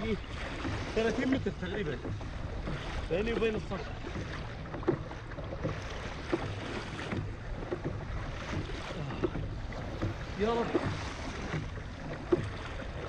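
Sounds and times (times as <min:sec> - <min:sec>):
paddle splashes: 0:00.0 - 0:13.0
water sloshing against kayak hull: 0:00.0 - 0:13.0.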